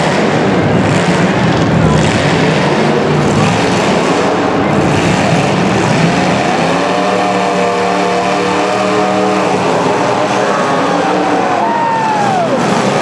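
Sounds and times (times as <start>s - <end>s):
engine passing by: 0.0s - 13.0s
racing engines running hard: 0.0s - 13.0s.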